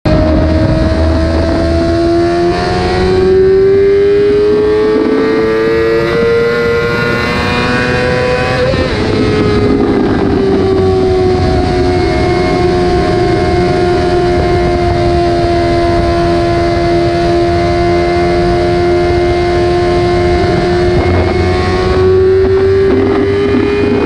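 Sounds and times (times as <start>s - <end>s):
motorcycle engine revving: 0.1s - 24.0s.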